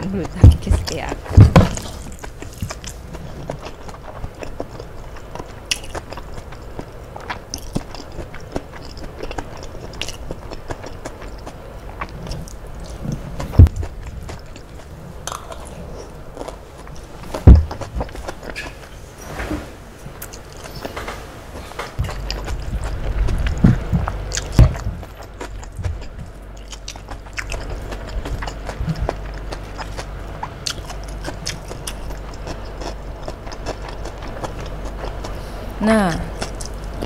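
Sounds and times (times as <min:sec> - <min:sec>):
mouth chewing food: 0:00.0 - 0:19.0, 0:22.0 - 0:37.0.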